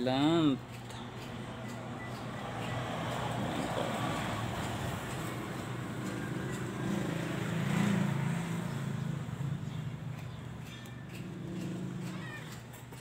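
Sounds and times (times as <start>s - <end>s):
traffic noise: 0.0s - 13.0s
vehicle engine running: 0.7s - 13.0s.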